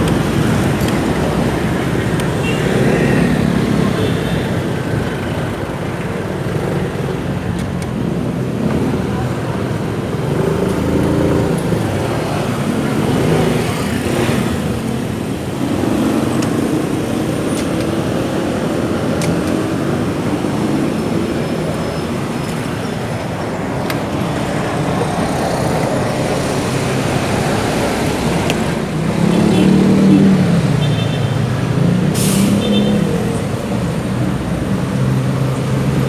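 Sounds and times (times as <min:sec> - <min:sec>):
traffic and road noise: 0:00.0 - 0:36.0.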